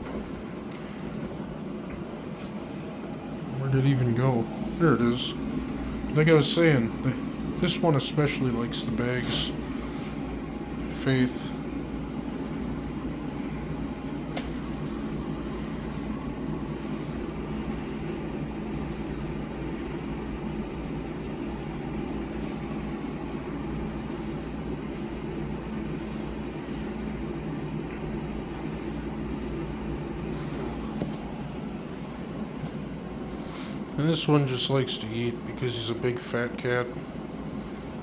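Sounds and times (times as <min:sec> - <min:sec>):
faint constant hum: 0:00.0 - 0:38.0
steady mechanical drone: 0:00.0 - 0:38.0.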